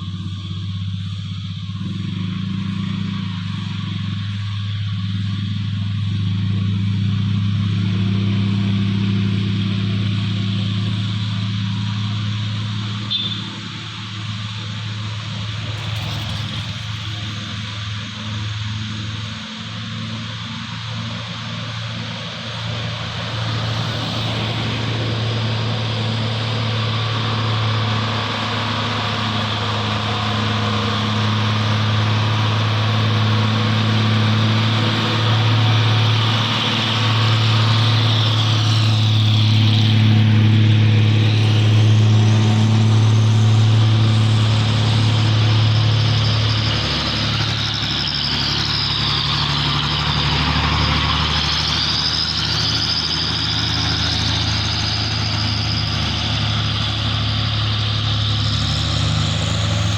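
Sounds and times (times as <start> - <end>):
truck diesel engines labouring: 0.0 - 59.9.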